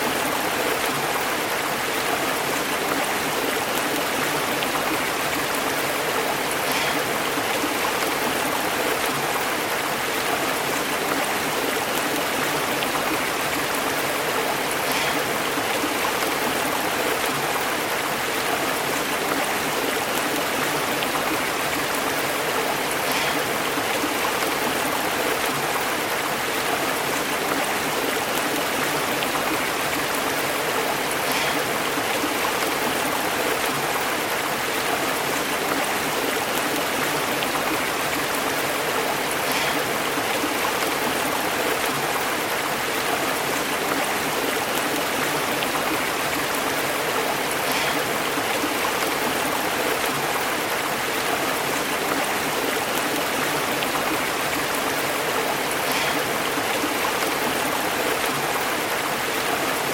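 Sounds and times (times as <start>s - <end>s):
stream water bubbling over rocks: 0.0s - 59.9s.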